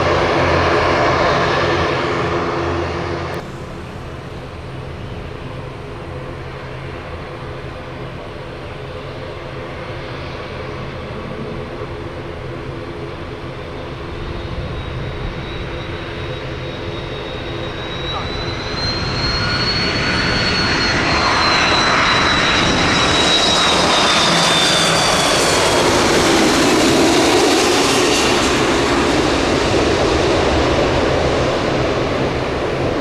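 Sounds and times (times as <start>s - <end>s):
jet airliner on approach: 0.0s - 33.0s
thin high engine whine: 0.0s - 33.0s
turboprop engines and propellers: 0.0s - 33.0s.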